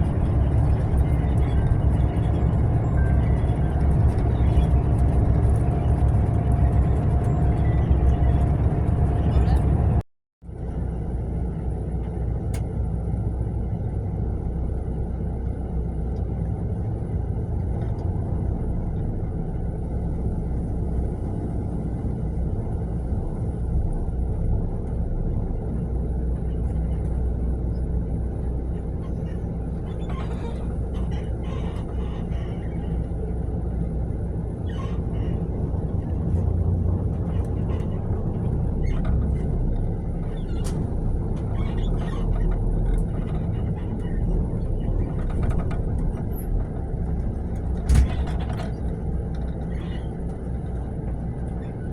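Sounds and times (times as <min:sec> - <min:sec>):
bus engine and road rumble: 0:00.0 - 0:51.9.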